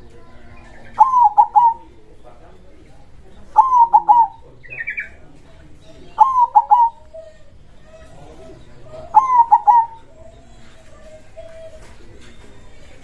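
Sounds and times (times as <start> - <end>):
dove cooing: 0.0 - 2.1, 3.6 - 5.2, 5.9 - 13.0.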